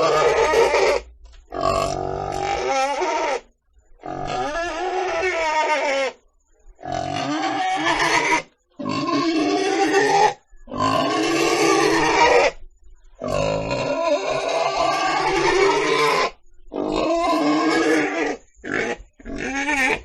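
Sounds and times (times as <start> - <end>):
pig calling: 0.0 - 6.2, 6.8 - 12.6, 13.2 - 20.0.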